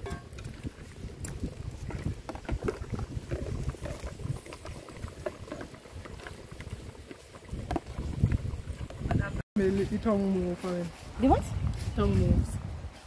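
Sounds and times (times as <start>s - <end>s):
pot bubbling and popping: 0.0s - 10.6s.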